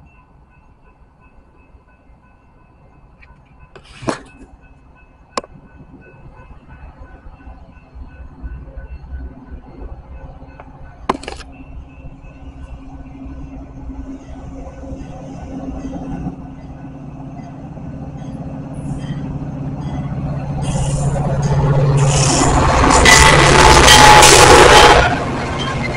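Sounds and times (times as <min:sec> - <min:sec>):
diesel locomotive engine drone: 0:00.0 - 0:25.9
train rumble: 0:00.0 - 0:25.9.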